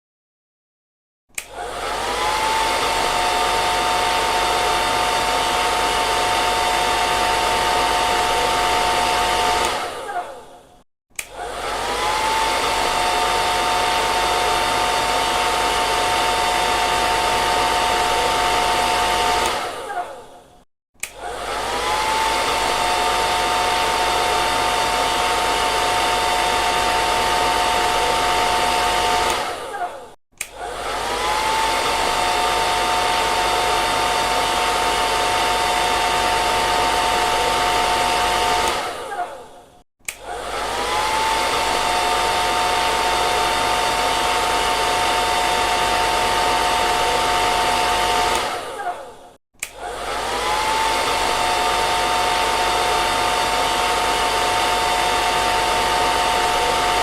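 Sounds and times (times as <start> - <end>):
hair dryer running: 1.3 - 57.0.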